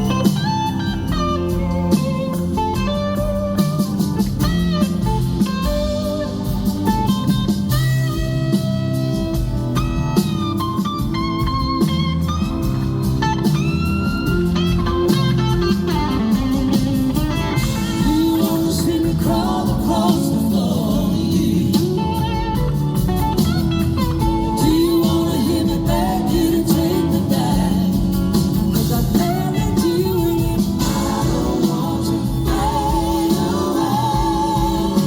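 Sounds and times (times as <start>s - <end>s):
blues rock band playing: 0.0s - 35.0s
electric slide guitar: 0.0s - 35.0s.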